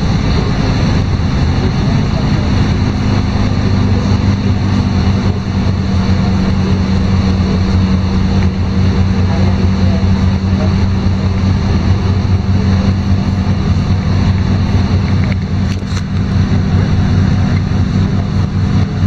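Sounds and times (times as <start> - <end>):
bus engine humming: 0.0 - 19.0
road and cabin noise: 0.0 - 19.0.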